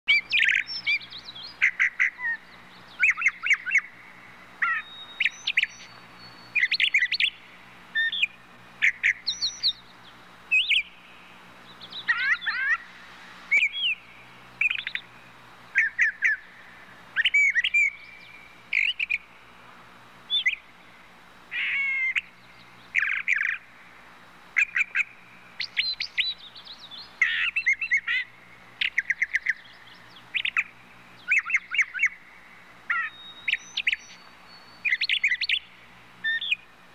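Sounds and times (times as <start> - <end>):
birds chirping and calling: 0.1 - 19.3, 20.3 - 20.9, 21.5 - 23.7, 24.6 - 36.7.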